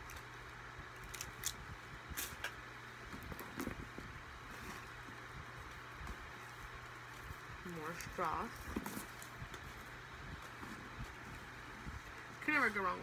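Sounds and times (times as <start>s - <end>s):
steady low hum: 0.0s - 13.0s
items rustling in a handbag: 1.0s - 13.0s.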